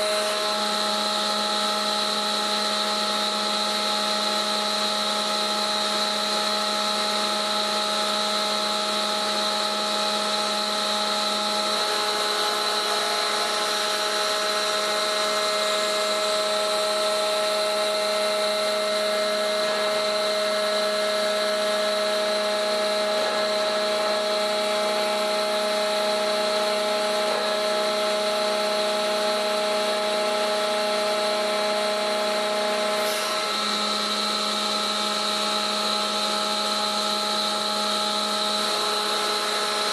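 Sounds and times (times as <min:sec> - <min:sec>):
machine whine over hiss: 0:00.0 - 0:29.2, 0:30.2 - 0:39.9.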